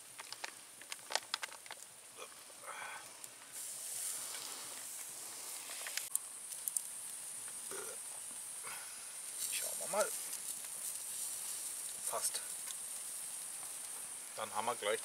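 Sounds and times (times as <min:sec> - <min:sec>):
fire crackling: 0:00.0 - 0:15.0
meat sizzling on a grill: 0:00.0 - 0:15.0.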